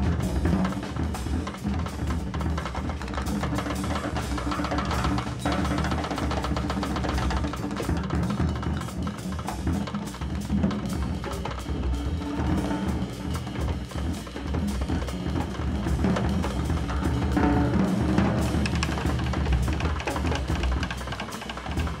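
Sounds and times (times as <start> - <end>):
large jazz ensemble playing: 0.0 - 22.0.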